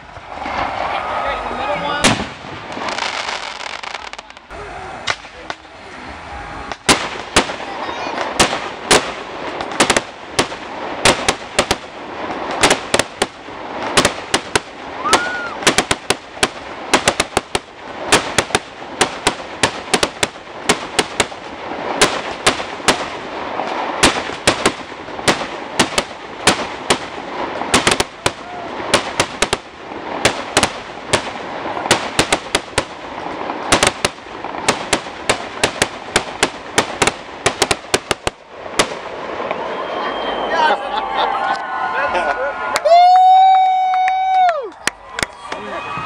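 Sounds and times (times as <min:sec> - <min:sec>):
fireworks crackling hiss: 0:00.0 - 0:41.9
fireworks bangs: 0:00.0 - 0:46.0.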